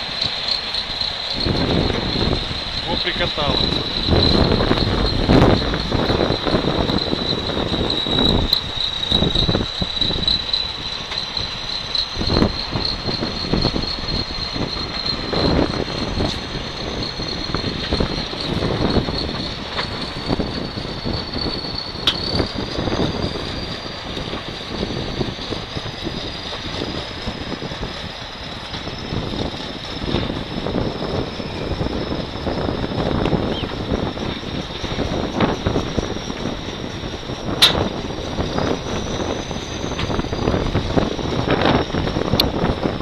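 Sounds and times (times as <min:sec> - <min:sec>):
engine rumble with high whine: 0:00.0 - 0:43.0.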